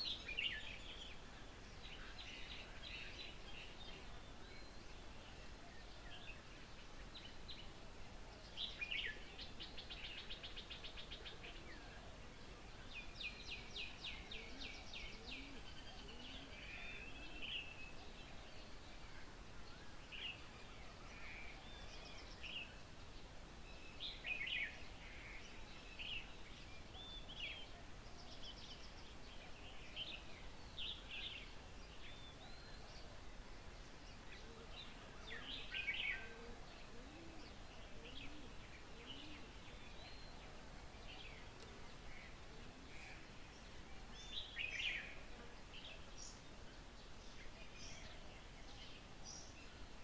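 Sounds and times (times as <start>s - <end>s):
birds chirping: 0.0s - 50.0s
outdoor background hiss: 0.0s - 50.0s.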